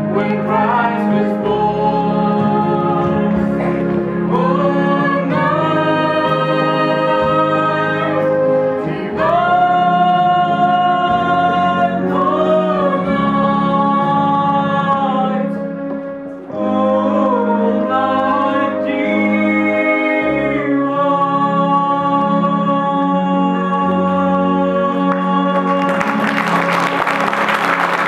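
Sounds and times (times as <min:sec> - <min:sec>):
choir singing a carol: 0:00.0 - 0:15.6, 0:16.4 - 0:27.1.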